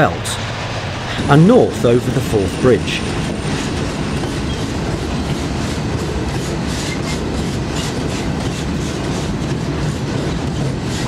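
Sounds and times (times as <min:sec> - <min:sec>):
train rumbling along rails: 0:00.0 - 0:11.0
wheels clacking over rail joints: 0:00.2 - 0:11.0.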